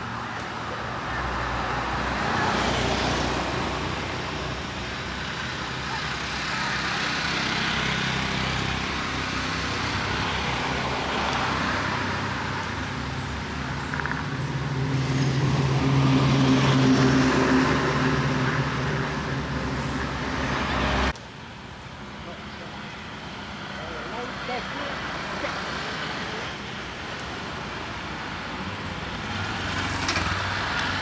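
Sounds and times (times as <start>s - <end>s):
road traffic: 0.0s - 31.0s
vehicle engine hum: 0.0s - 31.0s.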